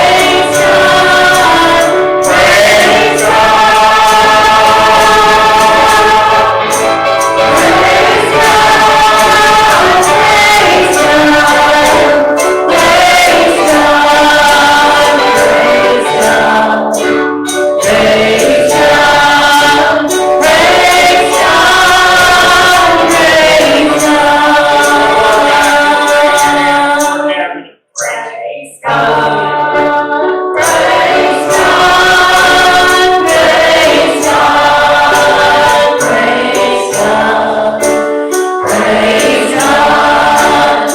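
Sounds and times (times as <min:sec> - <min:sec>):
group singing gospel song: 0:00.0 - 0:40.9.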